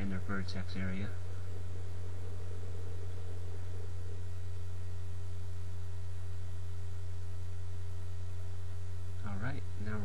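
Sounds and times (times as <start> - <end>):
faint higher tones: 0.0 - 10.0
low electrical hum: 0.0 - 10.0.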